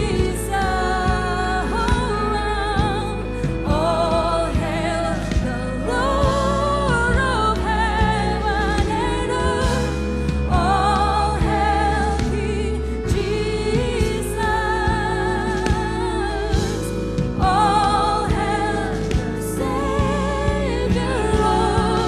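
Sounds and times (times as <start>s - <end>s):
live worship band playing: 0.0s - 22.0s
person singing with vibrato: 0.0s - 22.0s.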